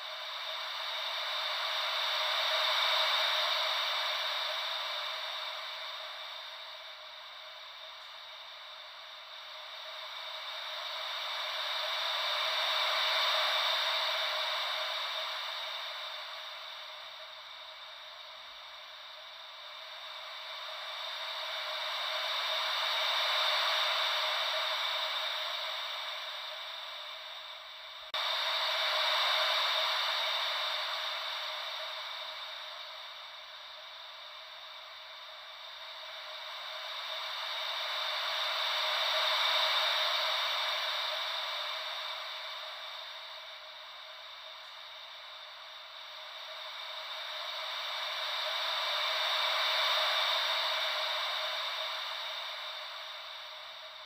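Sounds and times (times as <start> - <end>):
ocean-wave white noise: 0.0 - 54.0.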